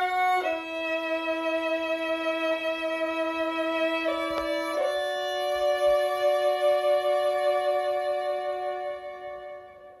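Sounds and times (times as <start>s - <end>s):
violins holding a chord: 0.0s - 10.0s.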